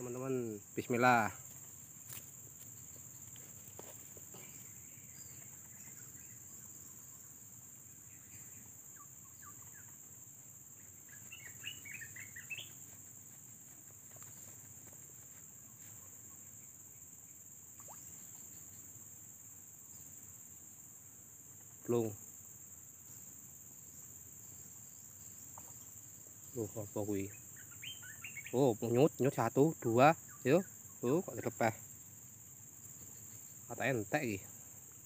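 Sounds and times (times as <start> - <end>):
high-pitched insect chorus: 0.0 - 35.0
insect chirps: 0.0 - 35.0.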